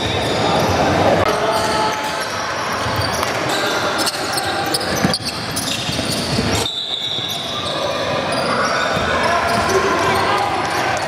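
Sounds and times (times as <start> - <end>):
hubbub of voices: 0.0 - 11.0.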